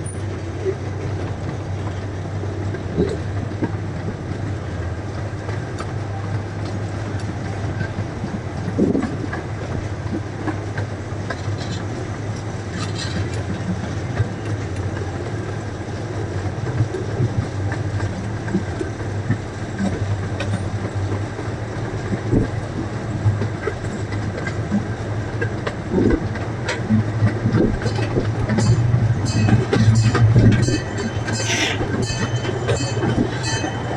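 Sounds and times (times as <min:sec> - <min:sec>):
small train rumbling: 0:00.0 - 0:33.9
wheels clicking on rails: 0:00.0 - 0:33.9.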